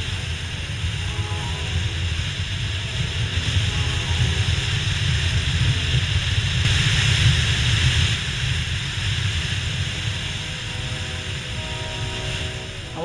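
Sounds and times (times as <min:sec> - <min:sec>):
motorcycle engine and road rumble: 0:00.0 - 0:13.0
wind rush on microphone: 0:00.0 - 0:13.0.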